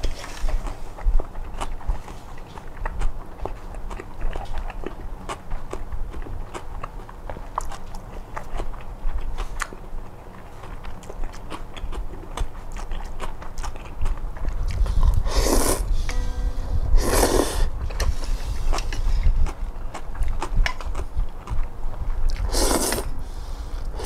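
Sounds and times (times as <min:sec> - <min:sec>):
person chewing crunchy food: 0:00.0 - 0:16.0, 0:17.0 - 0:24.0.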